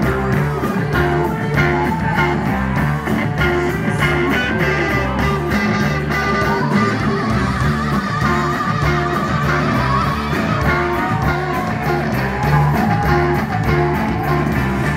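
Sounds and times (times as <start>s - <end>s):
electric guitar: 0.0s - 14.9s
live rock band playing: 0.0s - 14.9s
steady drum beat: 0.0s - 14.9s.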